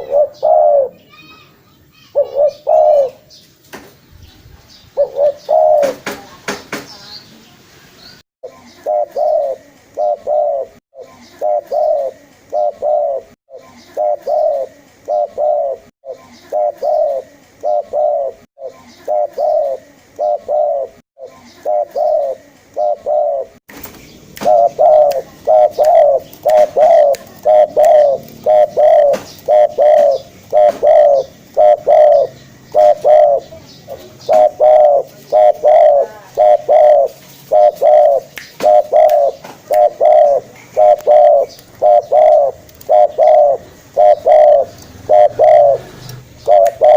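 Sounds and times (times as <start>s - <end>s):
dove cooing: 0.0s - 1.1s, 2.2s - 3.3s, 5.0s - 6.0s, 8.5s - 23.6s, 24.4s - 46.9s.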